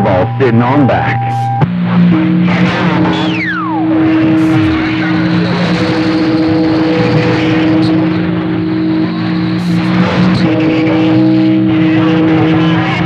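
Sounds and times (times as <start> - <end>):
radio static: 0.0 - 1.7, 2.4 - 13.0
droning radio tones: 0.0 - 13.0.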